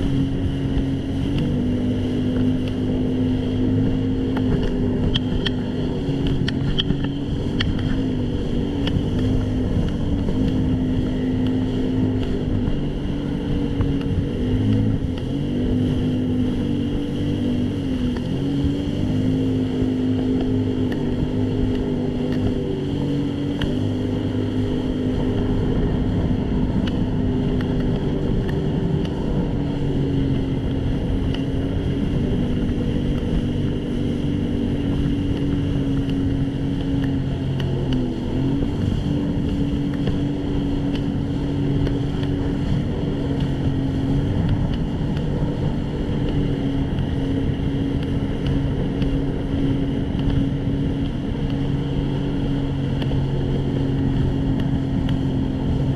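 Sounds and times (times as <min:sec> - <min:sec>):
jet ski engine running: 0:00.0 - 0:55.9
rushing water: 0:00.0 - 0:55.9
wind noise: 0:00.0 - 0:55.9.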